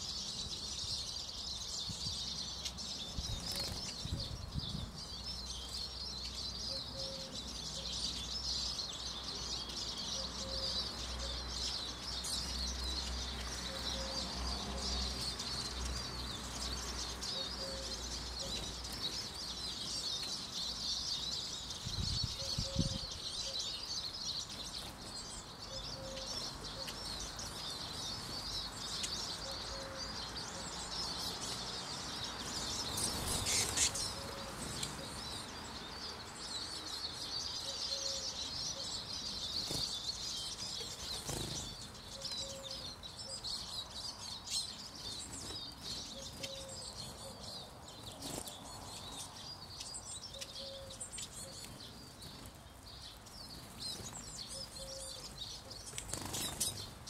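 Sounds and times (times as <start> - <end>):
flock of birds twittering: 0.0 - 57.0.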